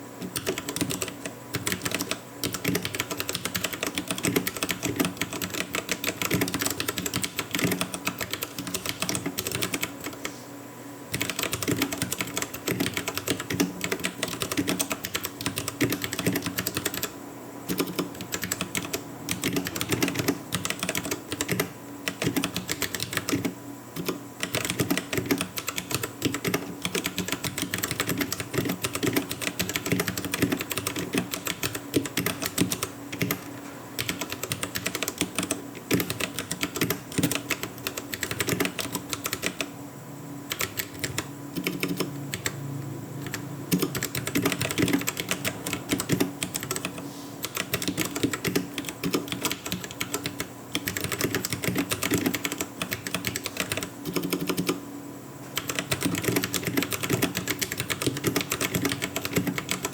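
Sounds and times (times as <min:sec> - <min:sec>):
mechanical keyboard typing: 0:00.2 - 0:10.3, 0:11.1 - 0:39.7, 0:40.5 - 0:42.6, 0:43.2 - 0:54.8, 0:55.6 - 0:59.9.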